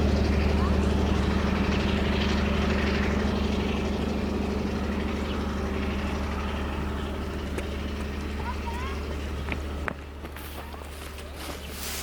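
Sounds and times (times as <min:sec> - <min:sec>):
locomotive engine droning: 0:00.0 - 0:12.0.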